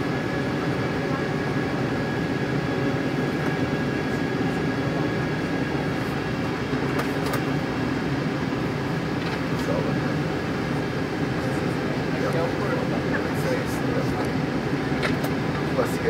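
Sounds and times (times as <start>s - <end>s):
jet engines in cabin: 0.0s - 16.0s.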